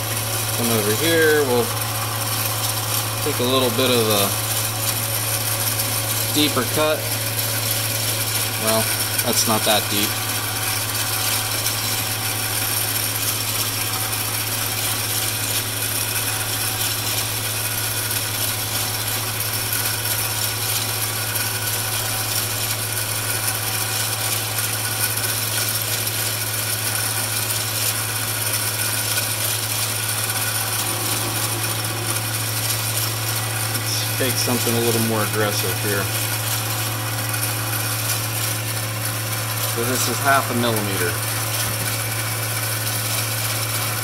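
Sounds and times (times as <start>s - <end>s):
metal lathe humming: 0.0s - 44.0s
tool cutting spinning metal bar: 0.0s - 44.0s.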